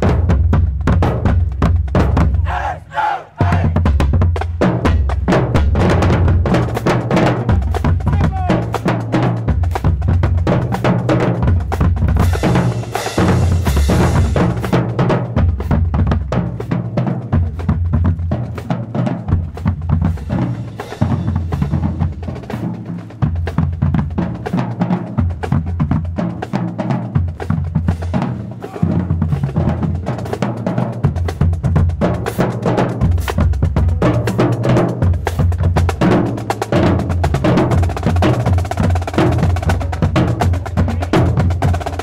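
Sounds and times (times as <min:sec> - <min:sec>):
bass drum beats: 0:00.0 - 0:42.0
snare drum rolls: 0:00.0 - 0:42.0.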